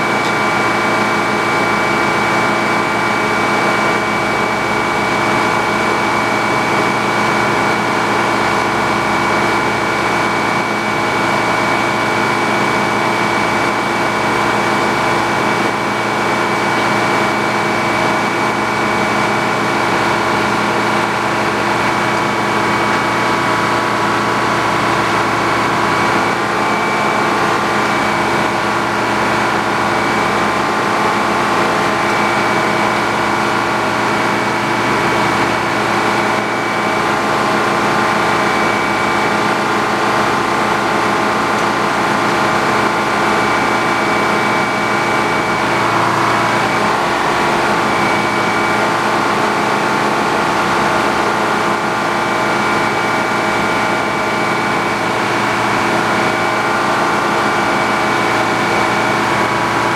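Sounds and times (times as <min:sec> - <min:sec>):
sawmill engine hum: 0:00.0 - 0:59.9.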